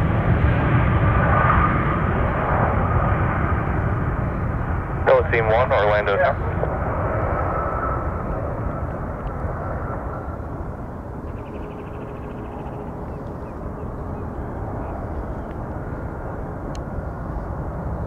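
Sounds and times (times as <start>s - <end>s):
jet airliner roar: 0.0s - 18.0s.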